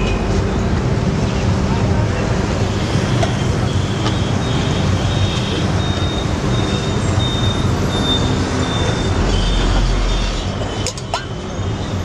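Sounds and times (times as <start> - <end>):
roadside traffic rumble: 0.0 - 12.0.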